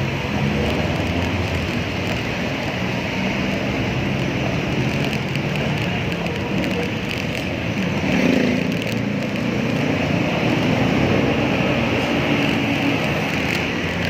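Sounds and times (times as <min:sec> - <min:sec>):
passing motor traffic: 0:00.0 - 0:14.0
wind and tyre hiss: 0:00.0 - 0:14.0.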